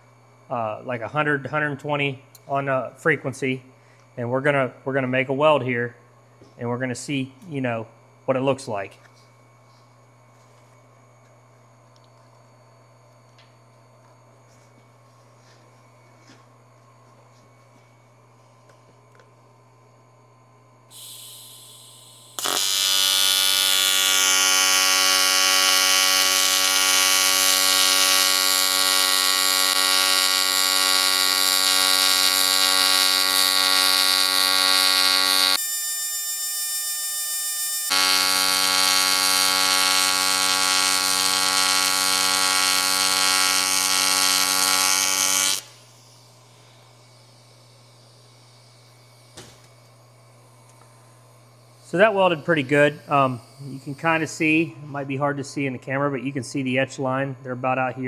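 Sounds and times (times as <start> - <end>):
welding arc buzz: 0.0 - 58.0.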